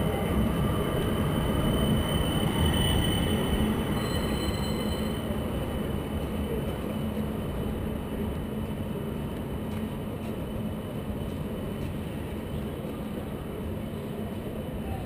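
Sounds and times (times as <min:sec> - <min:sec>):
city street noise: 0:00.0 - 0:15.0
tram rumbling: 0:00.0 - 0:15.0.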